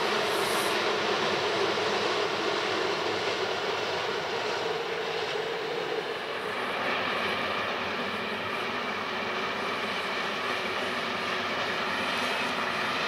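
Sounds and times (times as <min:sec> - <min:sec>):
distant diesel train rumble: 0:00.0 - 0:13.0
faint diesel locomotive hum: 0:00.0 - 0:13.0.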